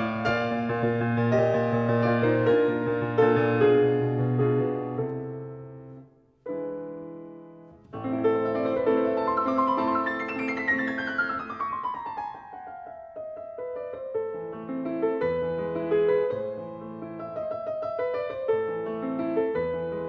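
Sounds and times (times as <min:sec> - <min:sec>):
solo piano: 0:00.0 - 0:20.0.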